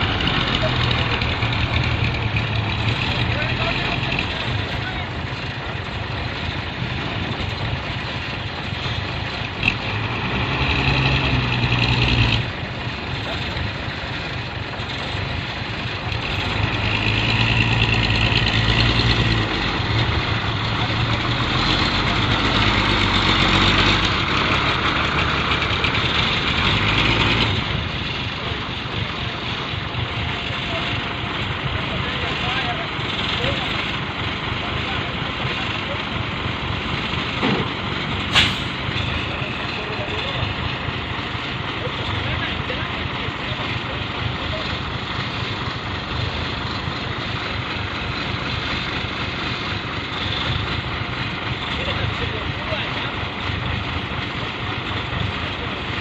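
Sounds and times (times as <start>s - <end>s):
broad rushing noise: 0.0s - 56.0s
diesel truck engine running: 0.0s - 56.0s.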